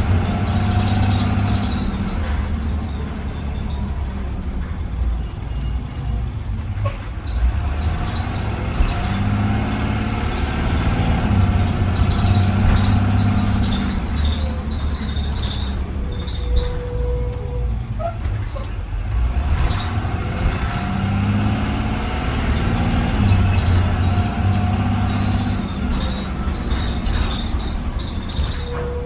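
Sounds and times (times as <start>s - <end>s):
bus engine hum: 0.0s - 29.0s
road noise: 0.0s - 29.0s.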